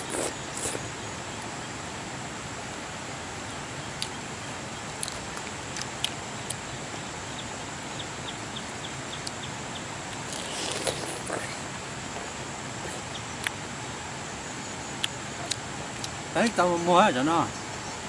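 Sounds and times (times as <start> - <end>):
faint high whine: 0.0 - 18.0
outdoor background hiss: 0.0 - 18.0.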